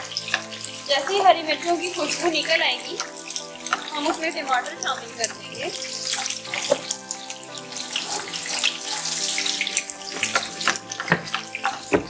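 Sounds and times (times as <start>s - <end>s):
background music: 0.0s - 12.0s
chillies sizzling in hot oil: 0.0s - 12.0s
wooden spoon stirring in wok: 0.0s - 12.0s.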